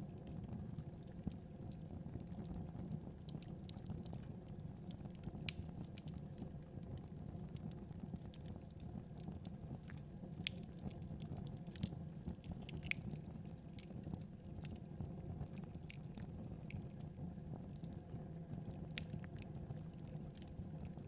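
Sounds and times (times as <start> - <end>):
wood fire crackling: 0.3 - 21.0.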